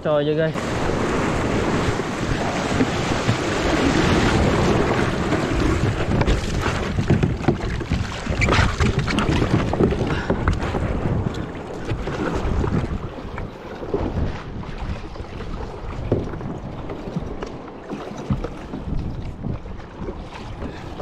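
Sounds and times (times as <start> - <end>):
waves washing and foaming: 0.0 - 21.0
wind buffeting microphone: 0.4 - 21.0
water slapping against kayak hull: 0.5 - 21.0.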